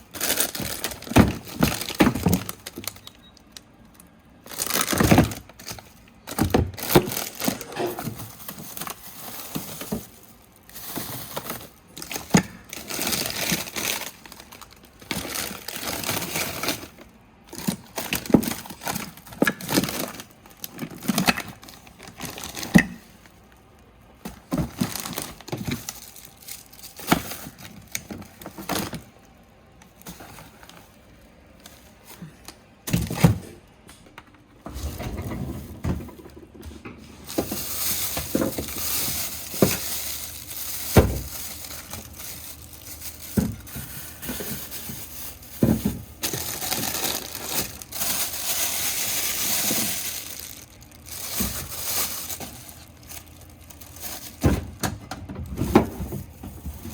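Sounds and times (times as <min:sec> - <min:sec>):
plastic crinkling and rustling: 0:00.0 - 0:33.5, 0:34.8 - 0:56.9.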